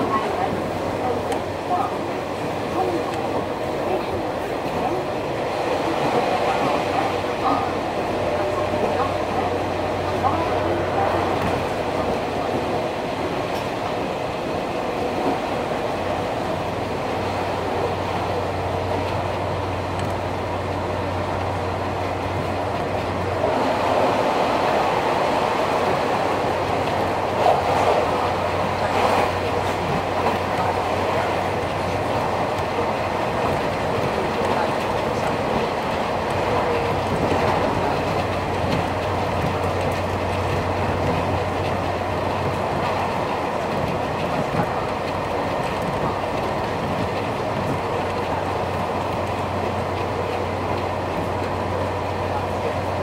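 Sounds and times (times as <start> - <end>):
low steady train hum: 0.0 - 53.0
wheels rumbling on rails: 0.0 - 53.0.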